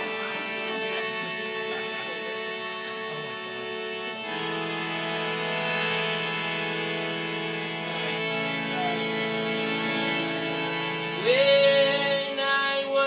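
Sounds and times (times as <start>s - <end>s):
live band playing held chords: 0.0s - 13.0s.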